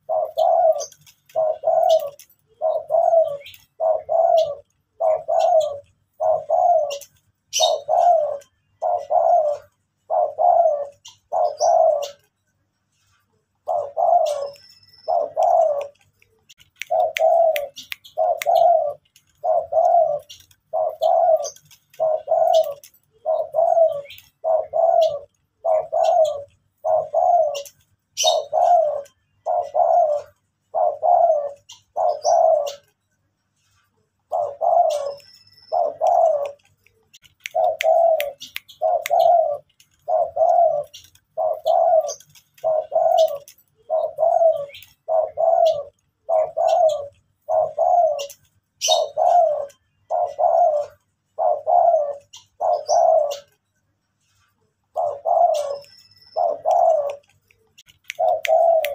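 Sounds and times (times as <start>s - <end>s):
dove cooing: 0.0s - 12.4s, 13.6s - 33.0s, 34.0s - 53.6s, 54.4s - 58.9s.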